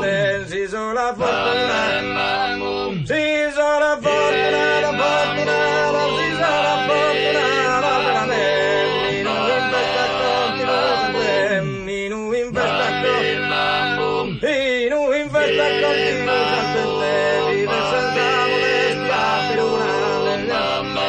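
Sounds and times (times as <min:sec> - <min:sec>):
man chanting: 0:00.0 - 0:02.0, 0:02.8 - 0:20.2.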